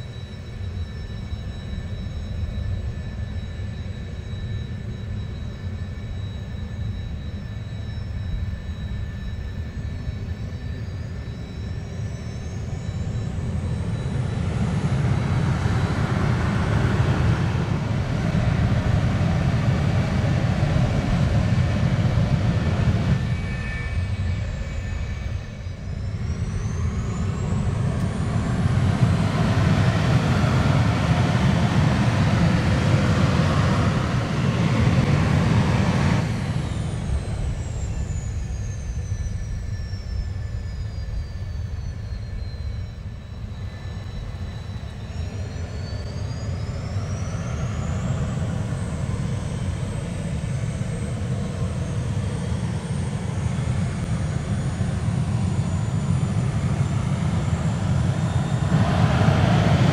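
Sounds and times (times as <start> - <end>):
high turbine whine: 0.0 - 59.9
jet engine roar: 0.0 - 59.9.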